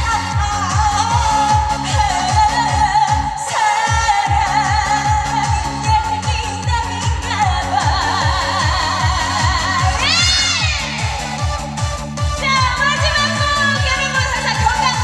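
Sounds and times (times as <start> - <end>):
woman singing with vibrato: 0.0 - 11.8, 12.4 - 15.0
backing track with bass-drum beat: 0.0 - 15.0.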